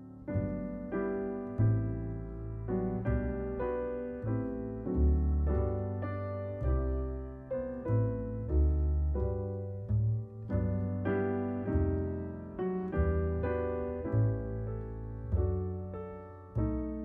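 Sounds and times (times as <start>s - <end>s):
solo piano chords: 0.0s - 17.0s.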